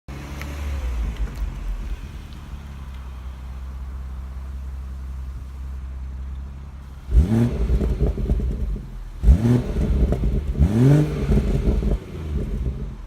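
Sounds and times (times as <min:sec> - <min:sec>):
car engine idling and revving: 0:00.1 - 0:13.0
exhaust crackling: 0:00.1 - 0:13.0.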